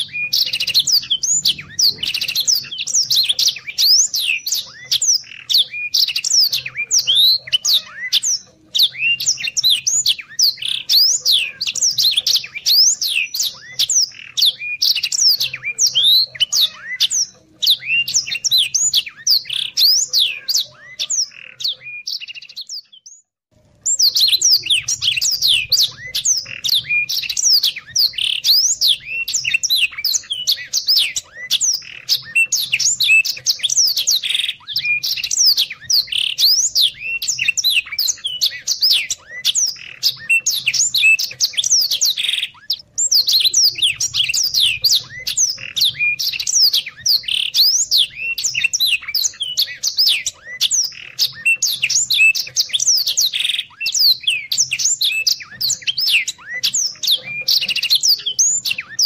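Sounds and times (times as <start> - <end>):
canary singing high twittering notes: 0.0 - 59.0.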